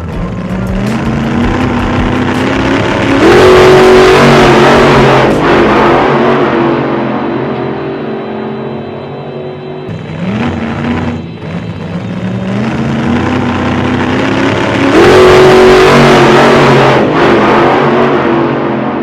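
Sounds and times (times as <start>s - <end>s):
car engine accelerating: 0.0s - 19.0s
road and wind rush: 0.0s - 19.0s.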